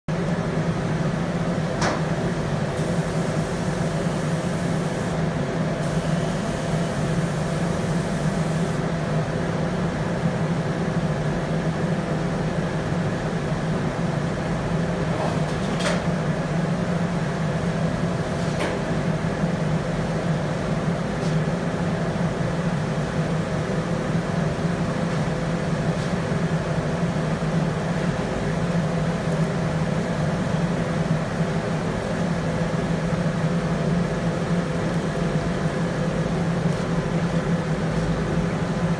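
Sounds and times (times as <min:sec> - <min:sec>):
mechanical hum with tones: 0:00.1 - 0:38.9.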